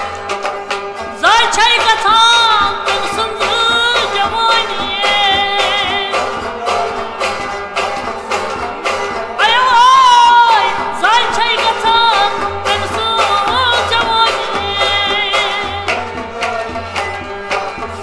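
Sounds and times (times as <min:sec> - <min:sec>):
bowed string instrument: 0:00.0 - 0:18.0
harmonium: 0:00.0 - 0:18.0
plucked lute: 0:00.0 - 0:18.0
man singing: 0:01.2 - 0:18.0
clay pot drum beating: 0:01.4 - 0:18.0
group singing along: 0:02.6 - 0:18.0.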